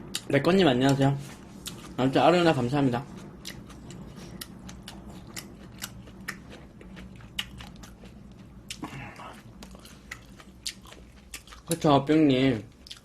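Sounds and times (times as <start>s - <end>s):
person chewing food: 0.0s - 11.9s, 12.7s - 13.0s.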